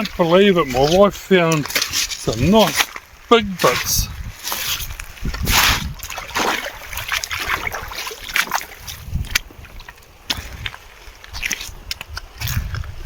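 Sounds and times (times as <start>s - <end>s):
wading through shallow water: 0.0s - 13.0s.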